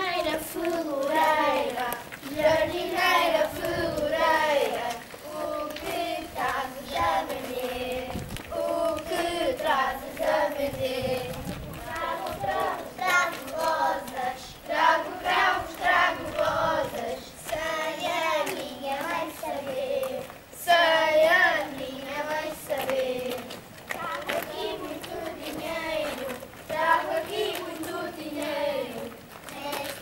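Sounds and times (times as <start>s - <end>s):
children singing together: 0.0s - 30.0s.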